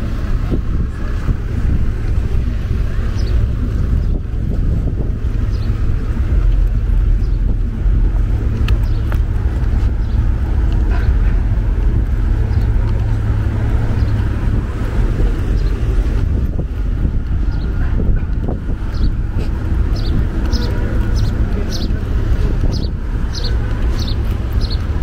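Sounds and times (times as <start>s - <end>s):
passing vehicles rumbling: 0.0s - 25.0s
wind buffeting microphone: 0.0s - 25.0s.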